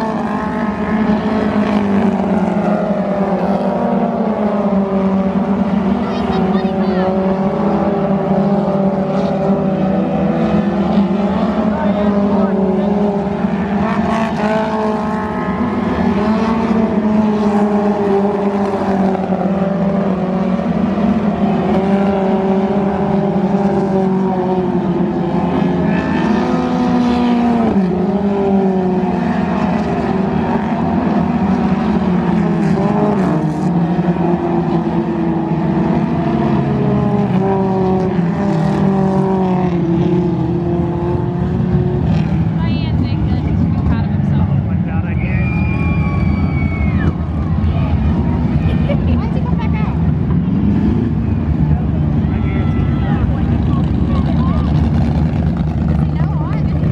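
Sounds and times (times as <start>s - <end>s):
racing car engines: 0.0s - 56.9s.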